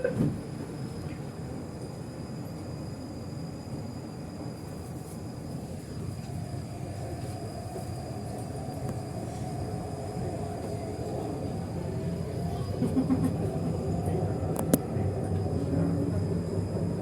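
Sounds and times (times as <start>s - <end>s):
train interior low rumble: 0.0s - 17.0s.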